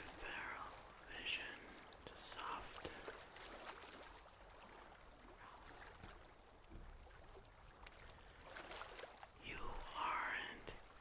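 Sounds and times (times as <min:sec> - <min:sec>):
faint water-like ambient wash: 0:00.0 - 0:11.0.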